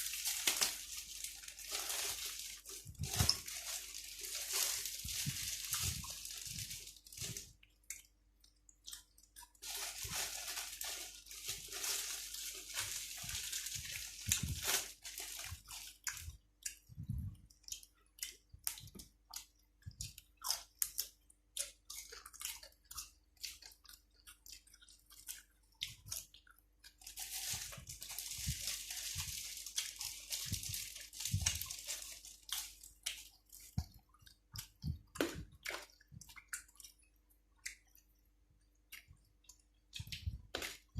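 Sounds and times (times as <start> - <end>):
chewing and crunching vegetables: 0.0 - 40.9.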